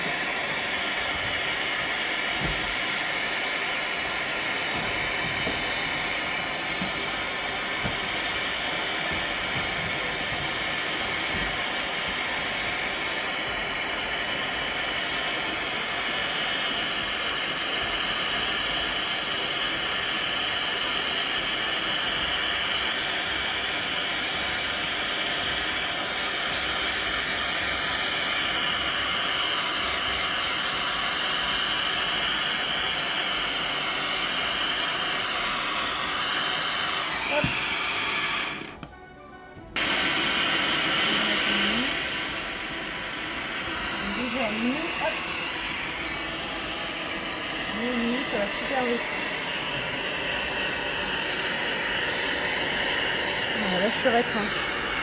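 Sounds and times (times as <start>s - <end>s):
hot air gun blowing with whine: 0.0s - 38.9s, 39.8s - 55.0s.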